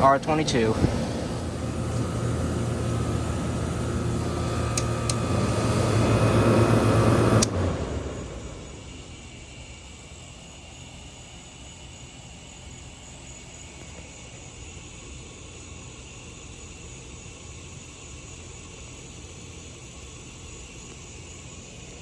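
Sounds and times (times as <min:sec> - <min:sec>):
heat pump humming: 0:00.0 - 0:22.0.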